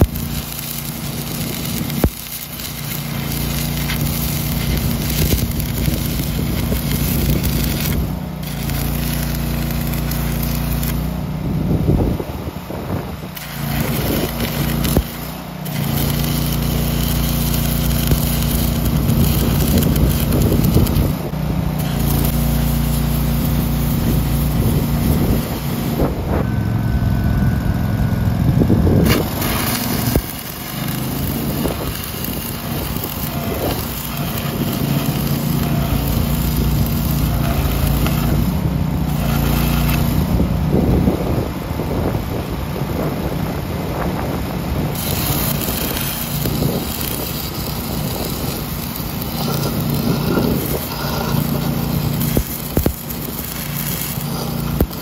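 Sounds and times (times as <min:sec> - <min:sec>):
welding arc crackling and hissing: 0:00.0 - 0:27.1, 0:28.4 - 0:42.1, 0:44.1 - 0:55.0
engine running: 0:00.0 - 0:55.0.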